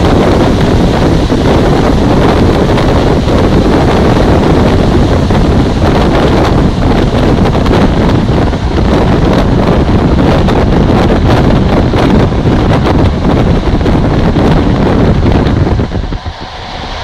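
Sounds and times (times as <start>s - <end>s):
train running on track: 0.0s - 17.0s
wind buffeting microphone: 0.0s - 17.0s.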